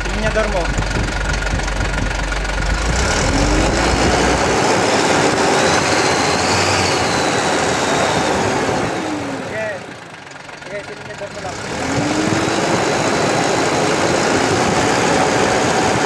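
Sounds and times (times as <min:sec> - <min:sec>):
truck diesel engine revving: 0:00.0 - 0:16.0.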